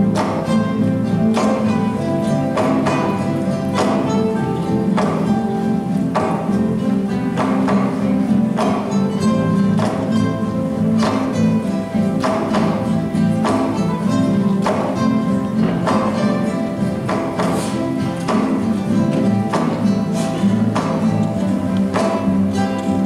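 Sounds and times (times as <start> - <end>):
classical guitars playing: 0.0 - 23.0.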